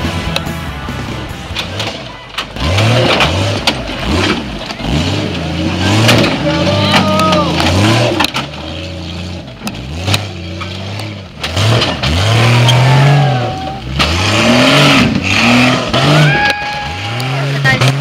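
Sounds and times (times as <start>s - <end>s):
engine revving under load: 1.1s - 18.0s.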